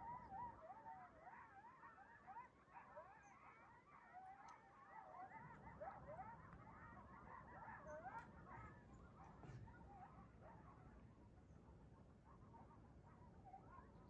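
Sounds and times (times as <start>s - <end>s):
coyotes howling and yipping: 0.0s - 14.0s.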